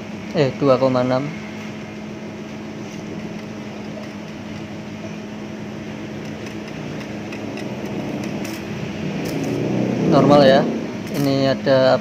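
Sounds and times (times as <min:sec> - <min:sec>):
low hum: 0:01.3 - 0:11.3.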